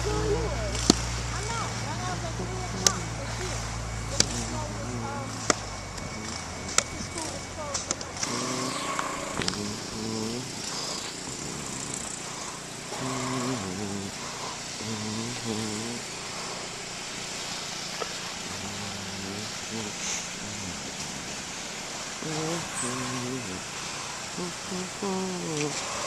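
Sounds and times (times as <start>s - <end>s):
man's indistinct voice: 0.0s - 16.8s, 18.0s - 26.0s
steady rushing noise: 0.0s - 25.0s.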